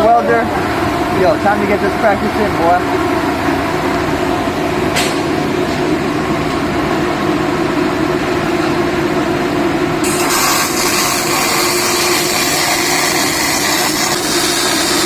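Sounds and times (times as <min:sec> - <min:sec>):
machinery drone with low hum: 0:00.0 - 0:15.0.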